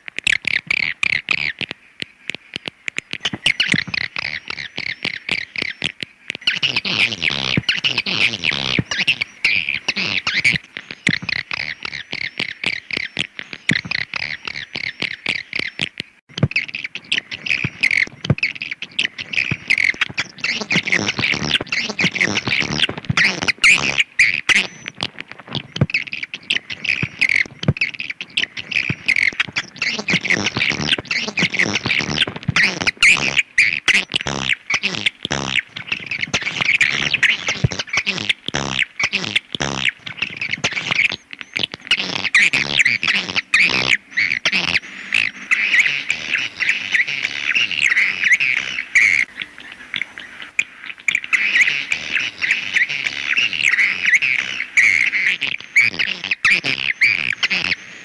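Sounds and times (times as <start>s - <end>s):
swiftlets twittering: 3.0s - 58.0s.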